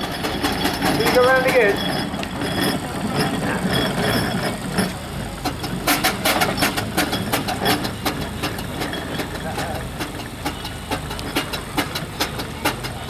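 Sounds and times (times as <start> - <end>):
sharp clicks and knocks: 0.0 - 13.0
steam traction engine running: 0.0 - 13.0.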